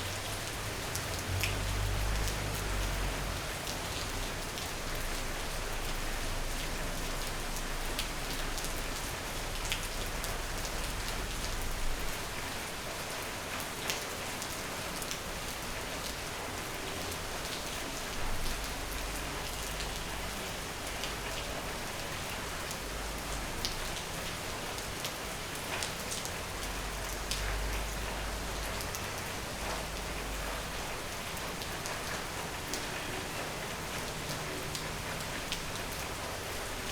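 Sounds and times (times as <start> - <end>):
rain hitting a surface: 0.0 - 36.9.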